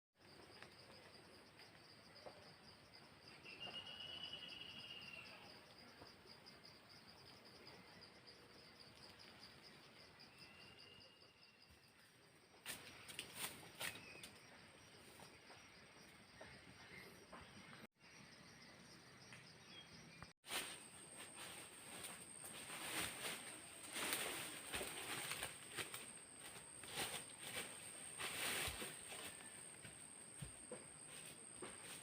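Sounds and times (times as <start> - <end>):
insects chirring: 0.2 - 32.0.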